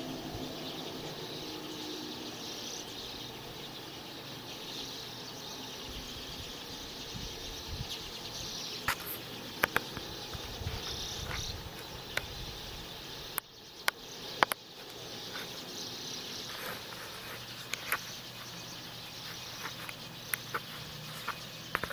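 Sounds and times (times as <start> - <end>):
insects chirring: 0.0 - 21.9.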